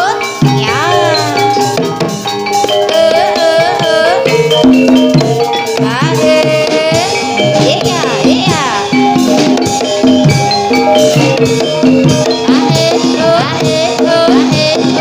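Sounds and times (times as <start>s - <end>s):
drumming: 0.0s - 15.0s
tuned percussion melody: 0.0s - 15.0s.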